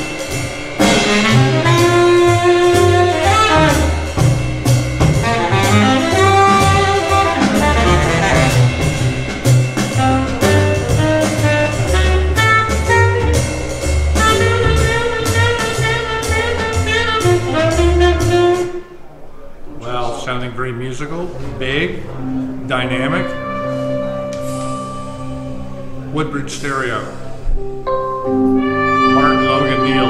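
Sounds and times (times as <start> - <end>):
jazz with horns bass and drums: 0.0 - 19.0, 21.3 - 26.6, 27.3 - 30.0.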